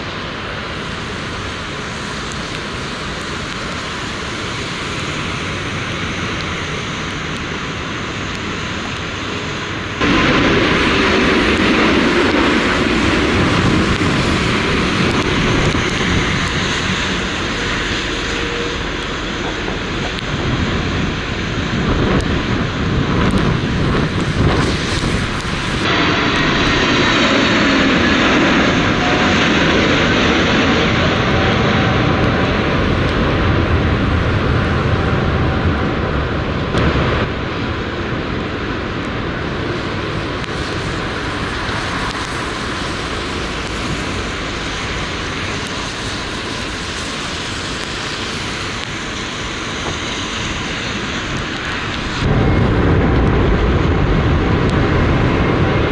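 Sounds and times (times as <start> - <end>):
jet airliner passing: 0.0 - 55.9
wind rumbling on microphone: 0.0 - 55.9.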